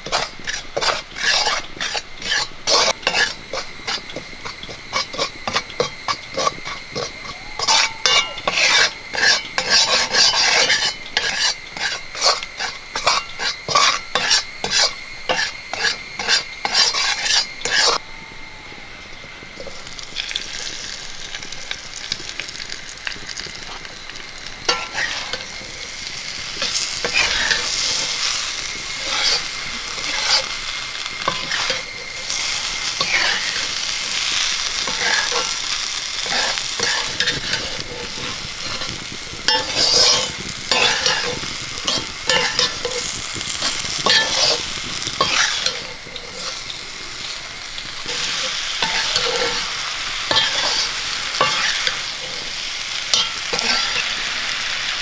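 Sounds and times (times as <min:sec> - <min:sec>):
spatula scraping iron pan: 0:00.0 - 0:18.0, 0:23.1 - 0:54.8
soft frying hiss: 0:00.0 - 0:55.0.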